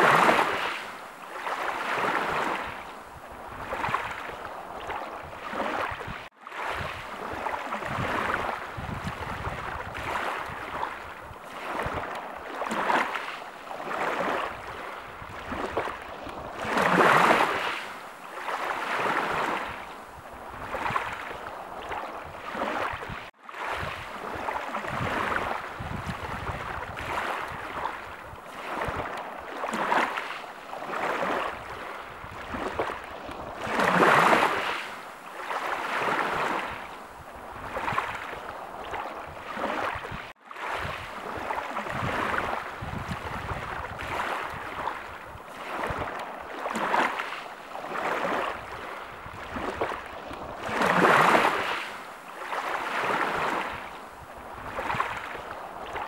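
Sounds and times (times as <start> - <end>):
waves washing on pebble beach: 0.0 - 56.0.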